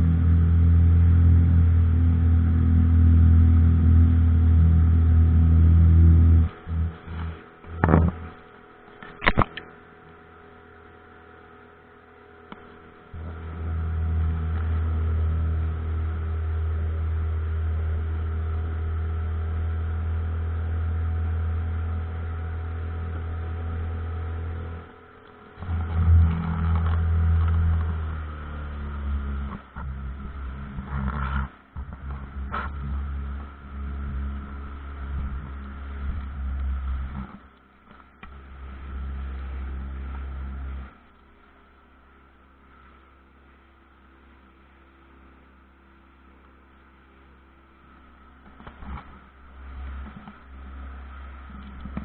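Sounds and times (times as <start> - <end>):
outboard motor humming: 0.0 - 52.0.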